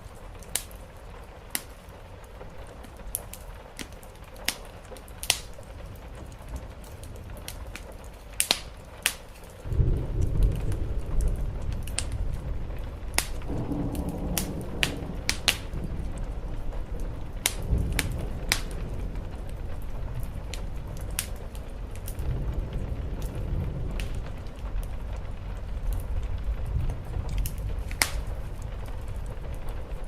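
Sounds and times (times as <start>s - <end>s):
rain on a roof: 0.0s - 30.0s
wood fire crackling and popping: 0.0s - 30.0s.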